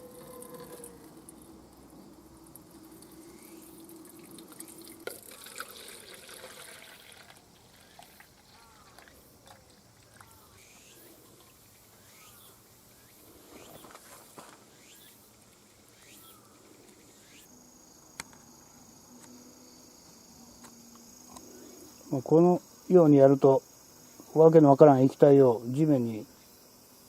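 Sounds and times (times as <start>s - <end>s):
high insect trill: 0.0s - 27.0s
insects chirping: 0.0s - 27.0s.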